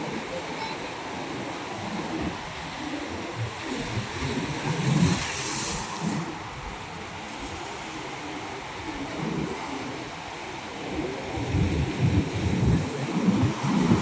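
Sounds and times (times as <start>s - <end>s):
ocean waves washing over rocks: 0.0s - 14.0s.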